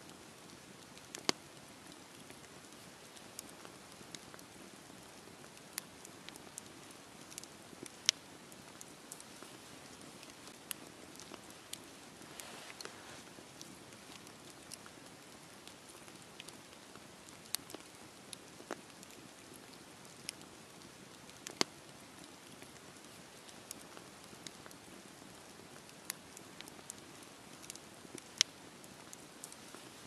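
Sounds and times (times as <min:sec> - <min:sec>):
burning logs crackling and popping: 0:00.0 - 0:30.0
campfire flames hissing: 0:00.0 - 0:30.0.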